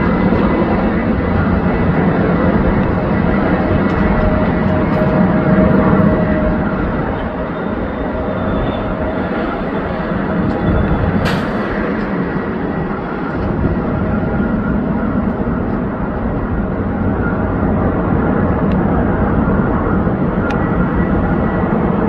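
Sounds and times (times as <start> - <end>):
jet engines and rushing air: 0.0 - 22.0.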